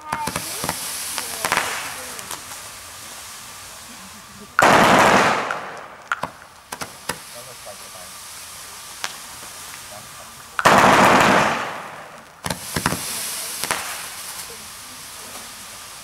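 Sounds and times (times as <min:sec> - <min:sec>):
firework cracks and crackle: 0:00.0 - 0:16.0
fireworks pops: 0:00.0 - 0:16.0
loud firework burst: 0:00.0 - 0:16.0.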